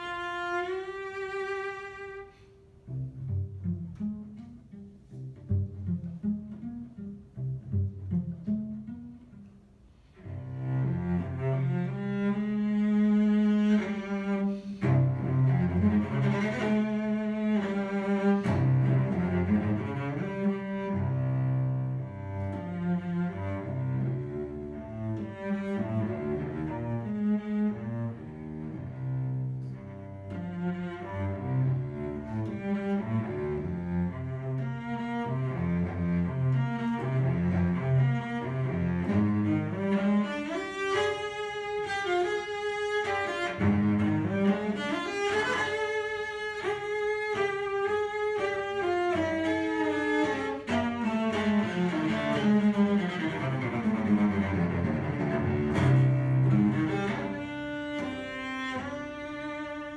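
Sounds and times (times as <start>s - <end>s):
bowed cello: 0.0s - 59.9s.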